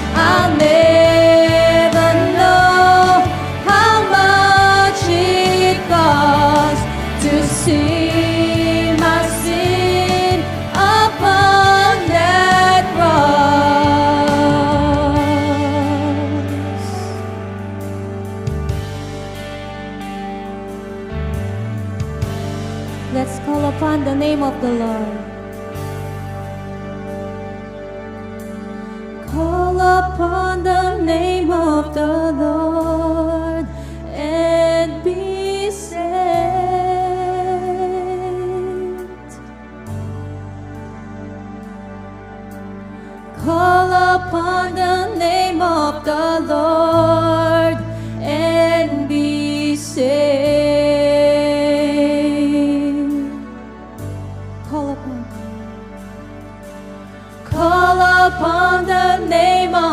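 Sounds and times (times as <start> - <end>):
instrumental accompaniment: 0.0 - 59.9
worship band music: 0.0 - 59.9.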